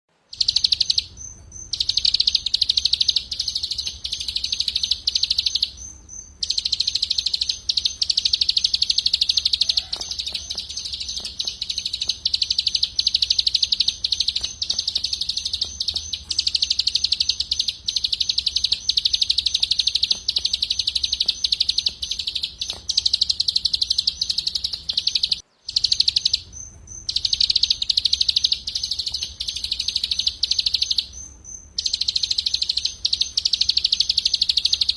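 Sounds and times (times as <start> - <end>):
faint low hum: 0.1 - 34.9
songbird singing fast trill: 0.3 - 34.9.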